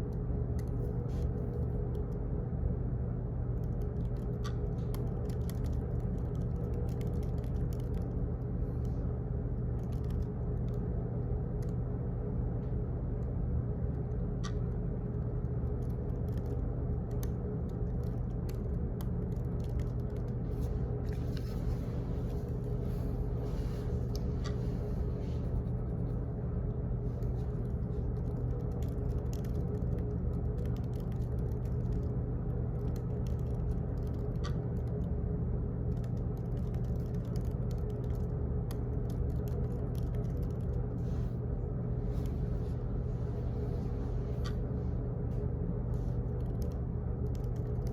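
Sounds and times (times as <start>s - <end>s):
small clicks and ticks: 0.0s - 2.2s, 3.4s - 11.9s, 12.6s - 41.3s, 45.3s - 47.9s
office room hum: 0.0s - 47.9s.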